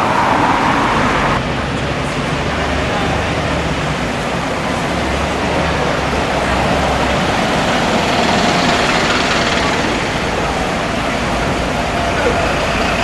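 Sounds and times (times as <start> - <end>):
broad rushing noise: 0.0 - 13.0
diesel engine running: 0.0 - 13.0.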